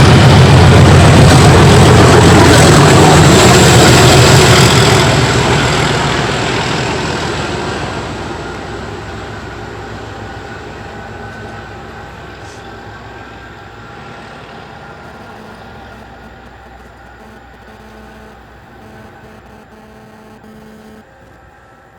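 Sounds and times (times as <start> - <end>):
diesel locomotives pulling away: 0.0 - 20.0.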